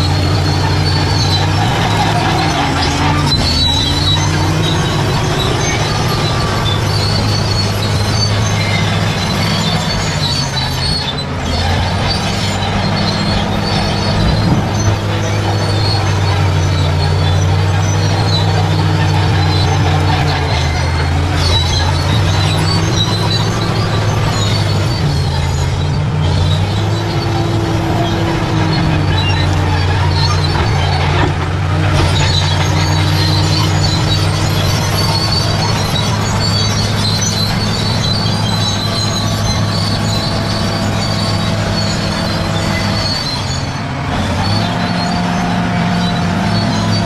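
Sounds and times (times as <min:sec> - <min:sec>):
bulldozer diesel engine: 0:00.0 - 0:47.0
steel tracks squeaking: 0:00.0 - 0:47.0.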